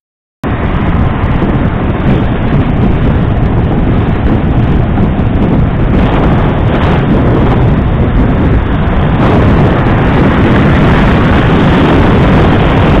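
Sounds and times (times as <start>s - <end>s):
wind noise on microphone: 0.4s - 13.0s.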